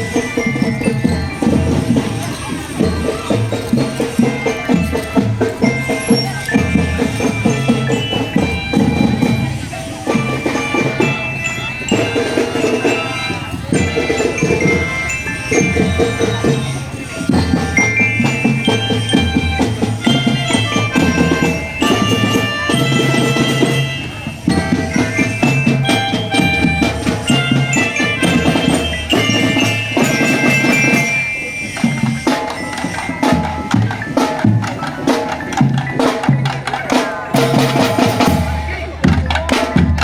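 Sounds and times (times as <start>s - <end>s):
bell-like mallet melody: 0.0s - 40.0s
marching drums beat: 0.0s - 40.0s.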